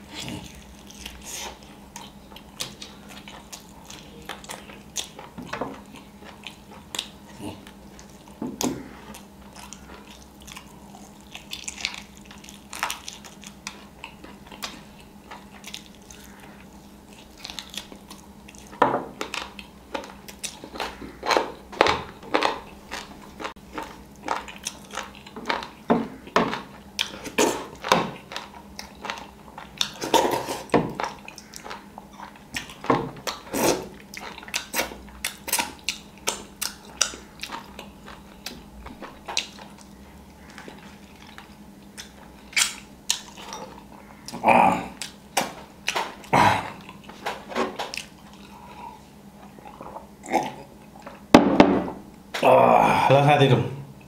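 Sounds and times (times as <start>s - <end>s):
chewing with wet lip smacks: 0.2s - 30.2s, 30.9s - 47.2s.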